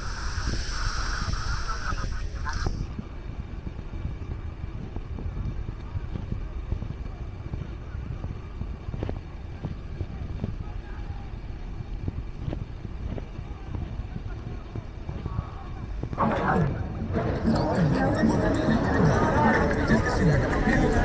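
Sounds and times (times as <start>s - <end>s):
faint voices: 0.0s - 21.0s
steady low rumble: 0.0s - 21.0s.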